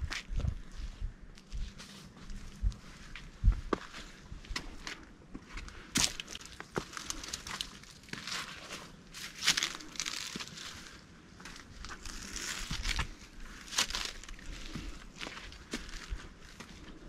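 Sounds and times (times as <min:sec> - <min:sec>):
footsteps crunching on trail: 0:00.0 - 0:17.0.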